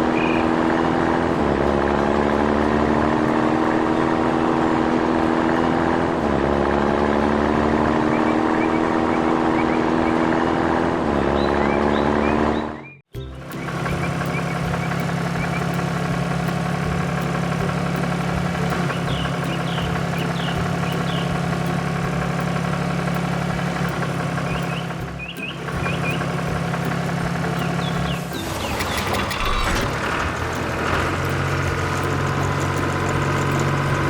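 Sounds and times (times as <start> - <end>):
cartoon vehicle engine running: 0.0 - 34.0.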